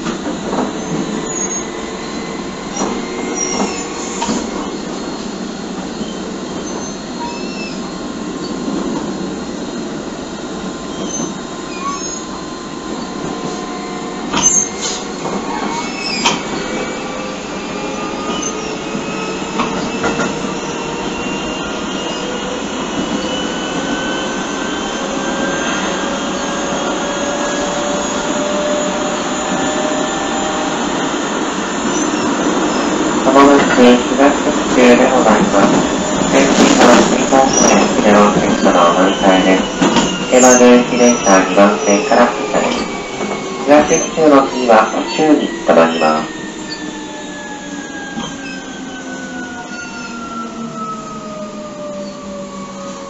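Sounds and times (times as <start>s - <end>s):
train motor and gear whine: 0.0s - 53.0s.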